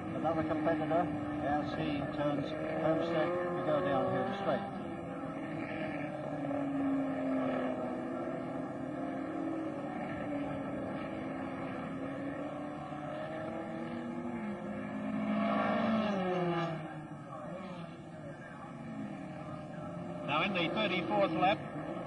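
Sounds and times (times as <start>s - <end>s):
racing car engine running hard: 0.0s - 22.0s.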